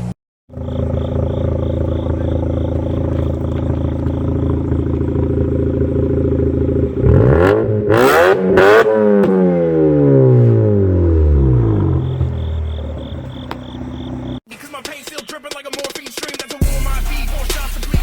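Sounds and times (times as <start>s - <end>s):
rotary engine idling and revving: 0.0s - 14.4s.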